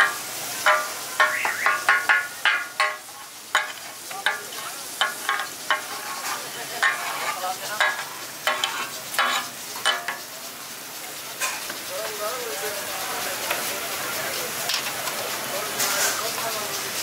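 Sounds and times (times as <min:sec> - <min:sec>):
spatulas clanking on griddle: 0:00.0 - 0:10.6, 0:11.3 - 0:12.2, 0:13.4 - 0:13.8, 0:14.5 - 0:16.7
meat sizzling in oil: 0:00.0 - 0:17.0.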